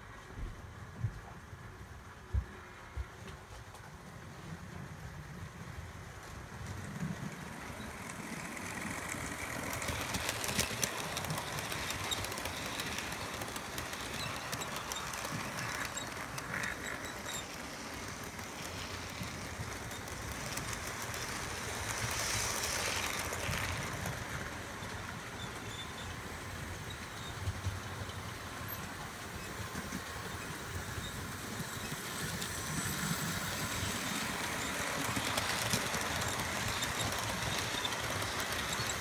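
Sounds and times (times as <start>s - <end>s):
model train rumbling on track: 3.9s - 39.0s.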